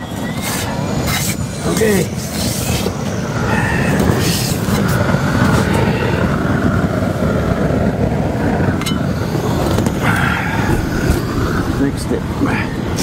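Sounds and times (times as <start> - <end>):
gas torch burning: 0.0 - 13.0.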